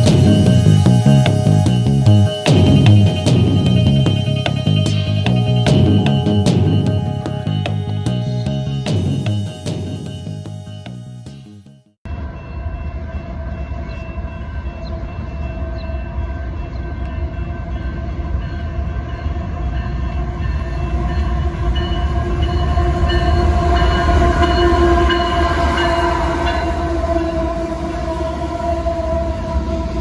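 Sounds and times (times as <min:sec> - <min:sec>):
freight train rumbling: 0:00.0 - 0:11.4, 0:12.1 - 0:30.0.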